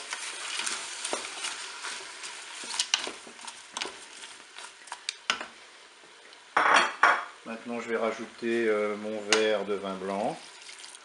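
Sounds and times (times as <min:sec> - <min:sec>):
vegetables sizzling in hot oil: 0:00.0 - 0:06.7, 0:07.4 - 0:11.0.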